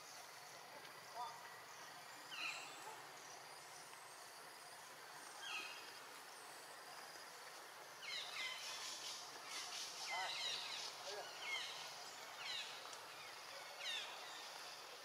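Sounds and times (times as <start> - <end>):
forest insects humming: 0.0 - 15.0.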